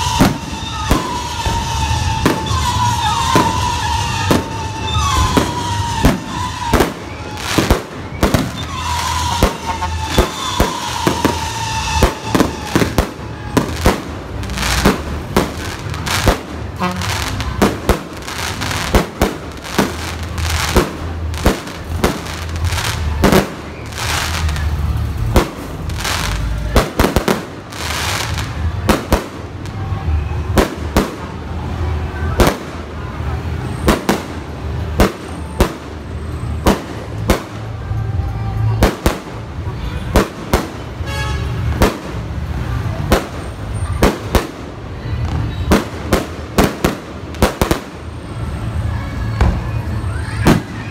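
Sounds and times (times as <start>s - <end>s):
fireworks bangs: 0.0s - 50.9s
fireworks crackling and hissing: 0.0s - 50.9s.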